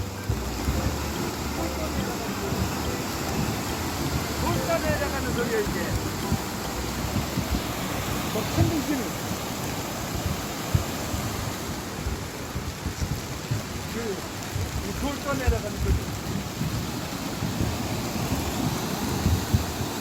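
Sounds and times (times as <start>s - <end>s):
heavy rain: 0.0s - 20.0s
low thumps: 0.0s - 20.0s
mountain stream running: 0.0s - 20.0s.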